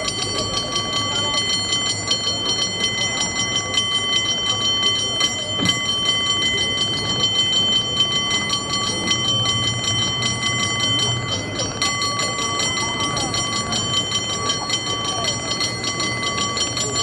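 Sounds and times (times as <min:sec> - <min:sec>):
bell rung by hand: 0:00.0 - 0:17.0.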